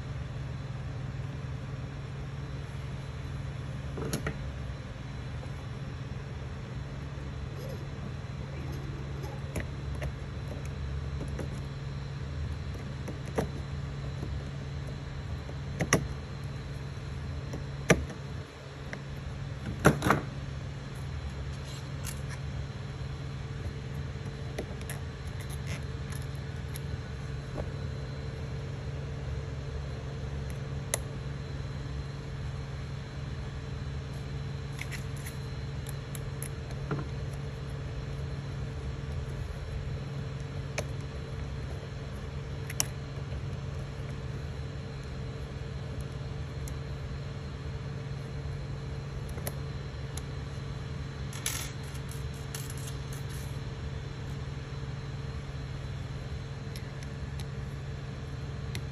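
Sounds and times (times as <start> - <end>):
printer fans humming: 0.0 - 58.9.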